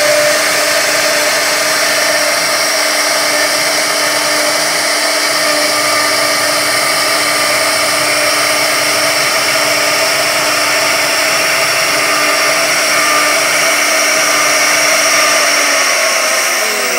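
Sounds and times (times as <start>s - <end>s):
hiss of wood cutting: 0.0s - 16.9s
router spindle whine: 0.0s - 16.9s.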